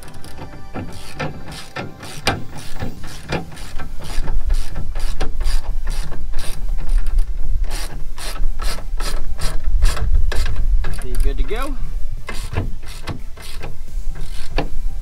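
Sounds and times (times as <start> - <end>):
hand ratchet clicking: 0.0 - 14.8.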